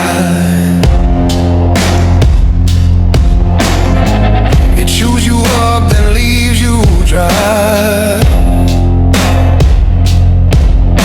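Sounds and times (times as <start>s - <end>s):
blues-rock lead melody: 0.0s - 11.0s
steady low bass: 0.0s - 11.0s.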